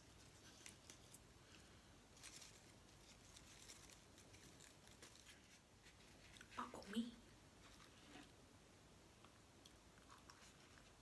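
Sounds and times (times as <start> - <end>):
soft rustles of leaves: 0.0 - 8.5, 9.6 - 11.0.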